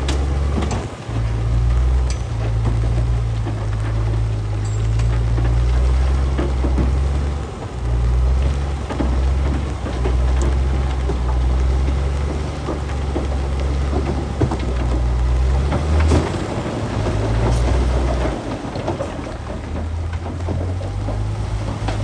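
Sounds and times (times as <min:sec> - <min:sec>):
diesel machine engine drone: 0:00.0 - 0:22.0
stone crackling and clattering: 0:00.0 - 0:22.0.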